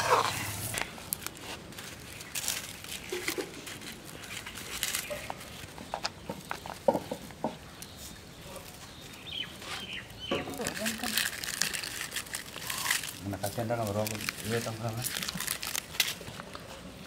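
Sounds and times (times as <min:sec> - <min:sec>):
leaf parcels crackling and rustling: 0:00.0 - 0:17.0.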